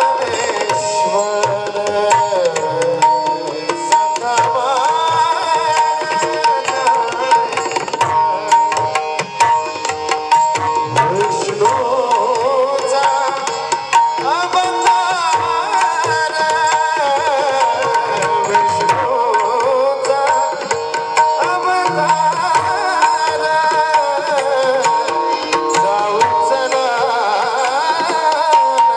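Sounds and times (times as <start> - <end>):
wavering devotional melody: 0.0 - 28.9.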